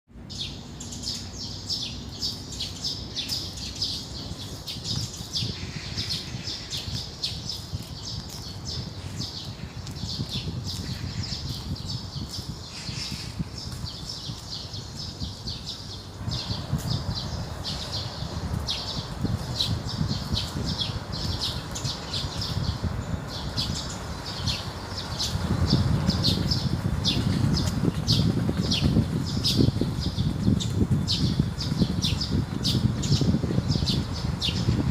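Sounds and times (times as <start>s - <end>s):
small birds chirping: 0.1s - 34.9s
wind noise: 0.2s - 34.9s.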